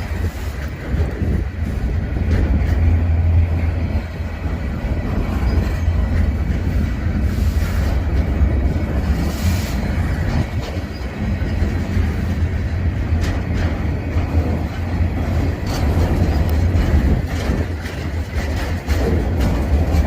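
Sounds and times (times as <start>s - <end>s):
freight train rumbling on rails: 0.0s - 20.0s.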